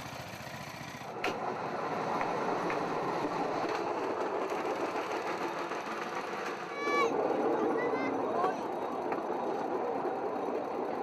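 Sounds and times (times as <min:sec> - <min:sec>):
small engine running: 0:00.0 - 0:11.0
wheels clattering on rails: 0:00.0 - 0:11.0.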